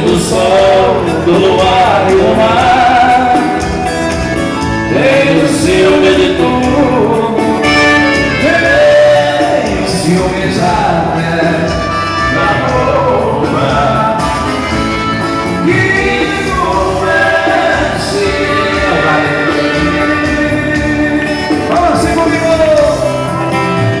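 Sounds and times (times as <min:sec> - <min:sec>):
live band playing: 0:00.0 - 0:24.0
person singing: 0:00.0 - 0:24.0.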